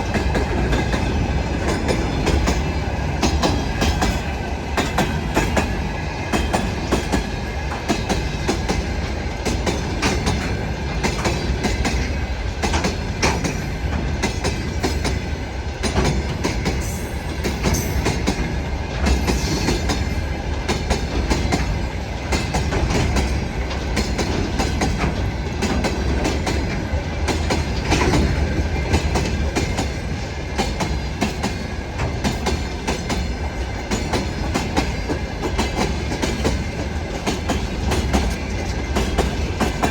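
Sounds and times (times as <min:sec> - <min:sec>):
train rumble: 0:00.0 - 0:39.9
train wheels clattering over rail joints: 0:00.0 - 0:39.9.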